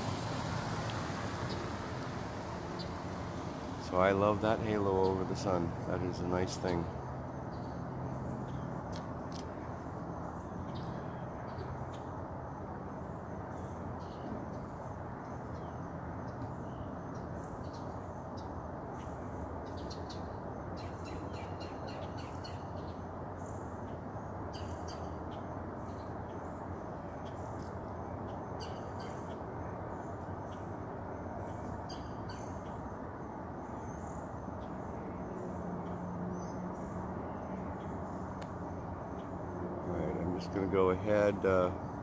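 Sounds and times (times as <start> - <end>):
birds chirping: 0.8 - 12.2, 13.0 - 42.0.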